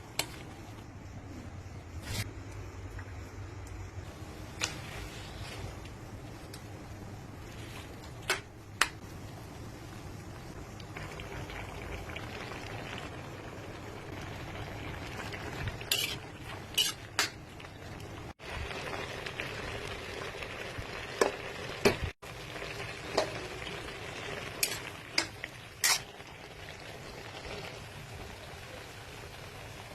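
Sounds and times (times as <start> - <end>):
pot boiling with bubbling hiss: 0.0 - 29.9.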